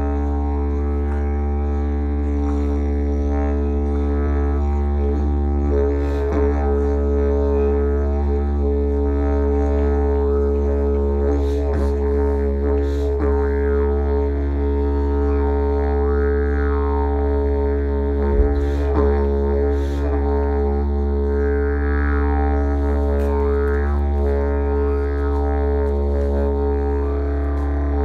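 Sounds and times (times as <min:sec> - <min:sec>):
didgeridoo drone: 0:00.0 - 0:28.0.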